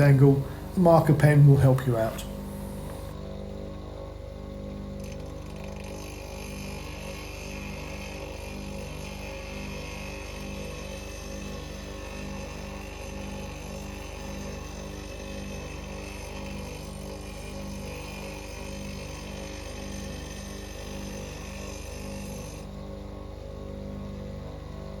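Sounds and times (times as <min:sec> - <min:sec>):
bench grinder grinding metal: 0:00.0 - 0:03.2, 0:05.0 - 0:23.1.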